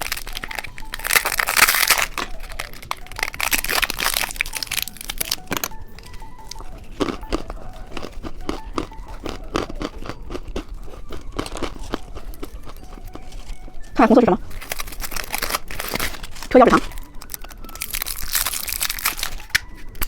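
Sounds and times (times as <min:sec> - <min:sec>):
plastic wrapper crinkling and tearing: 0:00.0 - 0:20.0.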